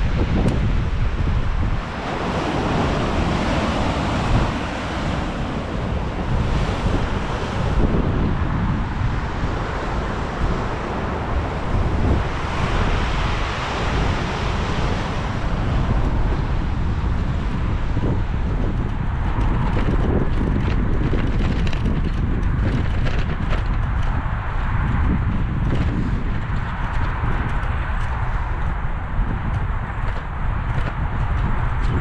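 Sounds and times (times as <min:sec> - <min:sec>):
storm waves breaking on shore: 0:00.0 - 0:32.0
wind buffeting microphone: 0:00.0 - 0:32.0.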